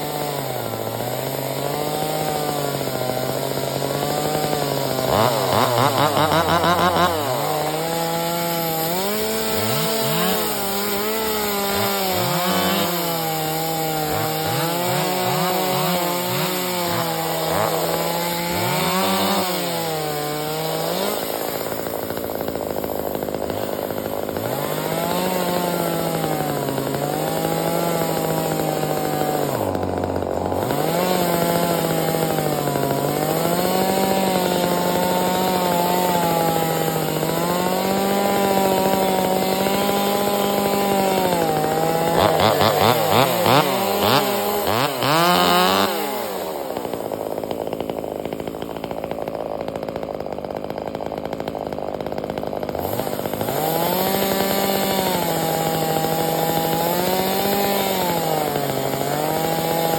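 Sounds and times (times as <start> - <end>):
chainsaw cutting wood: 0.0 - 59.9
chainsaw throttle revs: 0.0 - 59.9.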